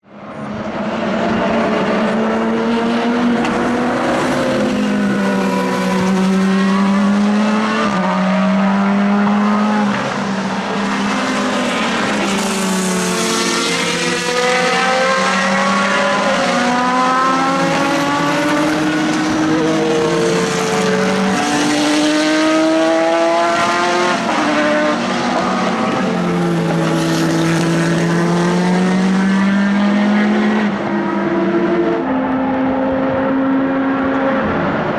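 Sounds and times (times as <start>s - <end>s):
race car engines passing: 0.1s - 34.9s.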